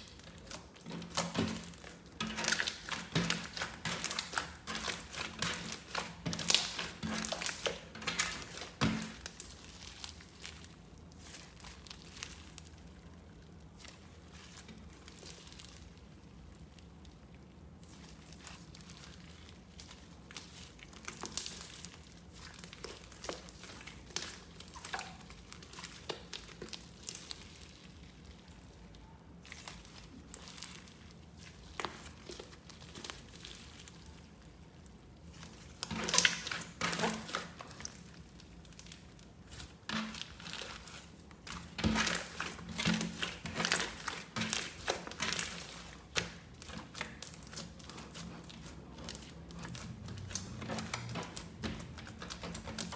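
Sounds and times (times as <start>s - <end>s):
slime crackling and popping: 0.0s - 52.9s.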